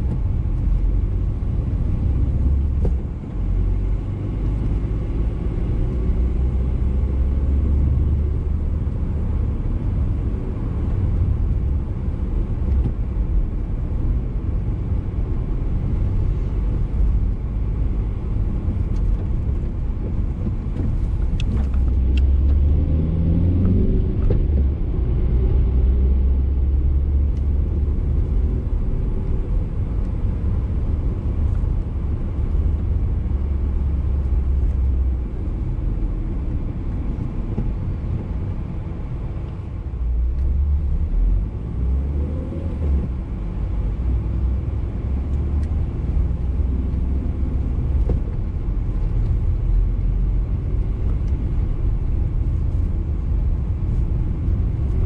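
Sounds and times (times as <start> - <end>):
car engine accelerating: 0.0 - 55.0
road noise inside car: 0.0 - 55.0.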